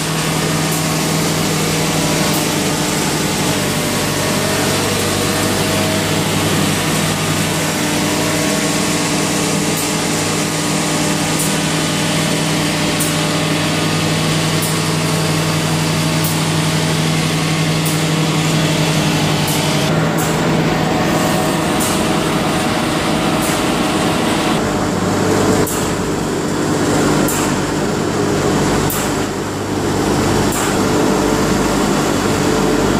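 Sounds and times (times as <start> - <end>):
milling machine and blower running: 0.0 - 32.9.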